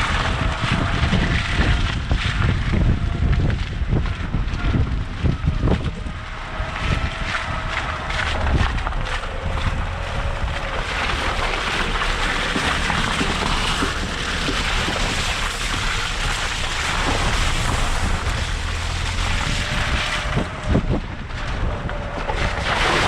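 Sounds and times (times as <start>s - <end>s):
vehicle engine rumble: 0.0s - 23.0s
wind buffeting microphone: 0.0s - 23.0s.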